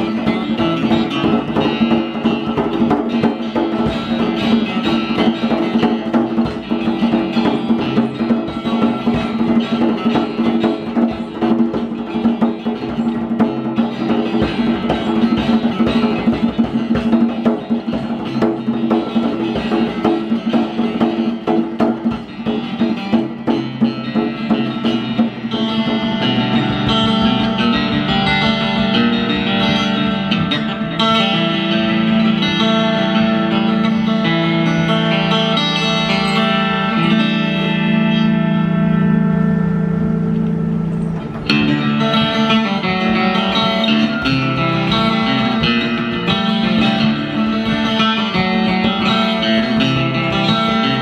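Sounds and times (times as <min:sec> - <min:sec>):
hand drumming on djembe: 0:00.0 - 0:38.1, 0:41.0 - 0:51.0
acoustic guitar: 0:00.0 - 0:51.0.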